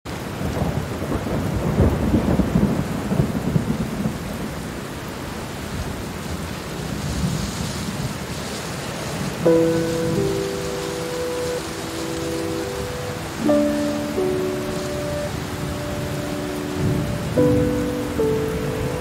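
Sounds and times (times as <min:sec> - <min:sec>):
steady rain: 0:00.1 - 0:19.0
rolling thunder rumble: 0:00.3 - 0:04.8, 0:05.7 - 0:19.0.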